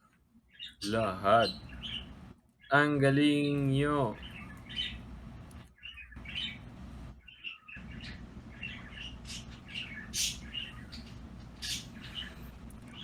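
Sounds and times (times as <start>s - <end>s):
low steady hum: 0.0s - 2.6s, 3.5s - 13.0s
small birds chirping: 0.0s - 13.0s.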